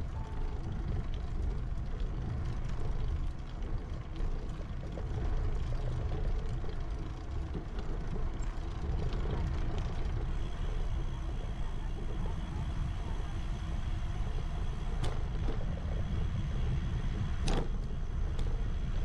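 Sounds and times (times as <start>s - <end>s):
road noise rumble: 0.0s - 19.0s.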